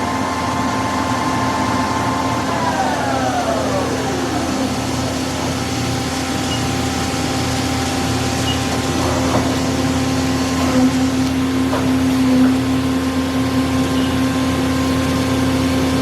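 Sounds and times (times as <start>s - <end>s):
lathe spindle whine winding down: 0.0s - 16.0s
machine humming: 0.0s - 16.0s.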